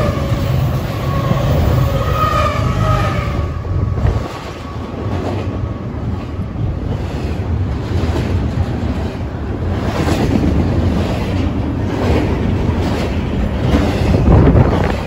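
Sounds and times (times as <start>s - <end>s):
container train wheels rumbling: 0.0s - 15.0s.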